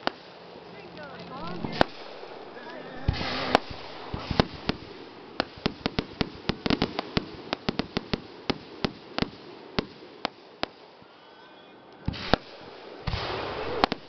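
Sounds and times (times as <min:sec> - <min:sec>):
fireworks popping and crackling: 0:00.0 - 0:14.0
fireworks bang: 0:01.0 - 0:10.8, 0:12.0 - 0:14.0.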